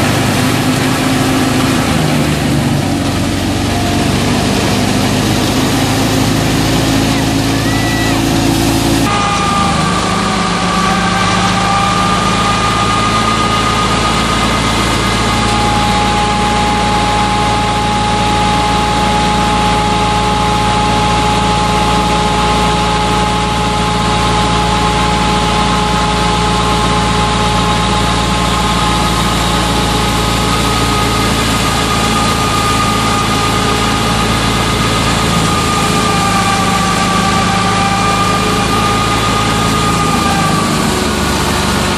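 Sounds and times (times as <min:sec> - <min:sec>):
thresher high whine: 0:00.0 - 0:41.9
thresher low drone: 0:00.0 - 0:41.9.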